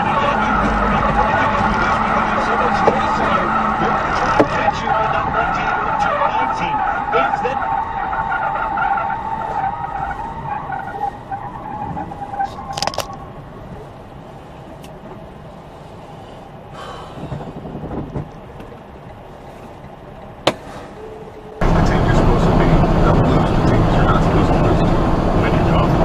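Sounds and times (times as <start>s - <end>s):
car tyres screeching: 0.0s - 26.0s
road rumble: 0.0s - 26.0s.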